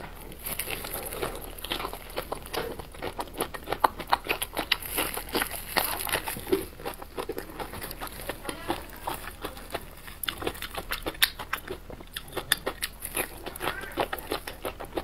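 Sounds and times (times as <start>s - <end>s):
person chewing with wet mouth clicks: 0.0s - 15.0s.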